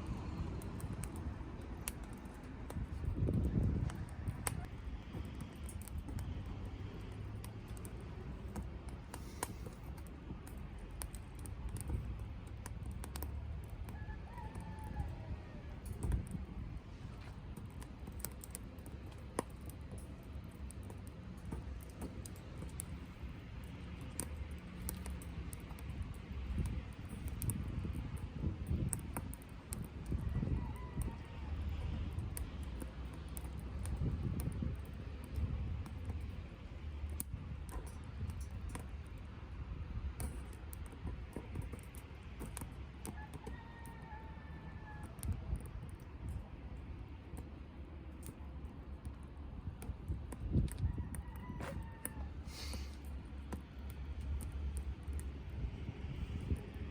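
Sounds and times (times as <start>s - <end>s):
rush of flame: 0.0s - 43.2s, 45.0s - 56.9s
low rumble of fire: 0.0s - 56.9s
wood crackling and popping: 0.0s - 56.9s.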